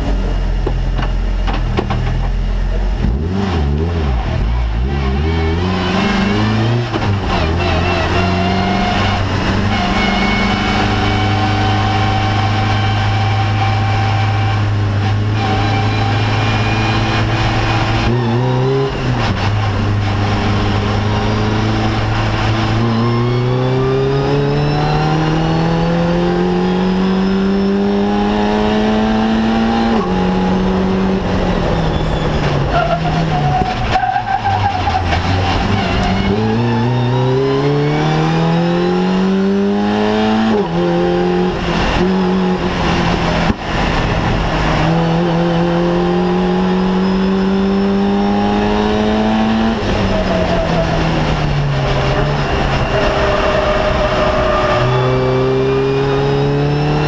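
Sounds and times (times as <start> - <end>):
race car engine from cockpit: 0.0 - 57.0.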